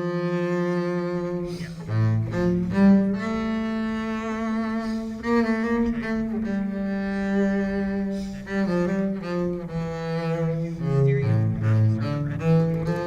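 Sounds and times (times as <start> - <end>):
bowed low string notes: 0.0 - 13.0.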